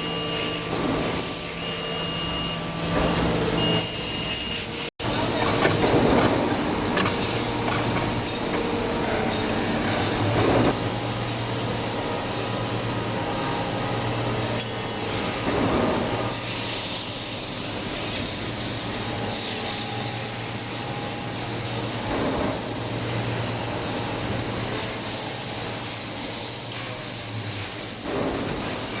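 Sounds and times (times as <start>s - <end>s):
machines humming: 0.0s - 29.0s.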